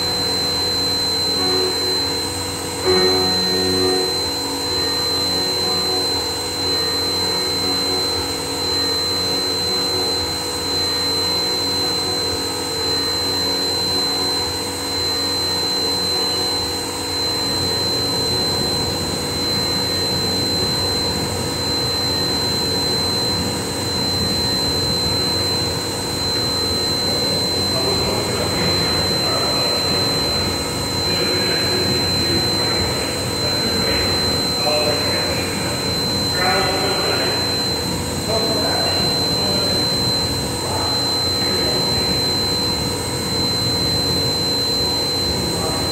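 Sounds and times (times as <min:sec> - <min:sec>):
cnc machine whine and drone: 0:00.0 - 0:45.9
rough dense machine noise: 0:00.0 - 0:45.9.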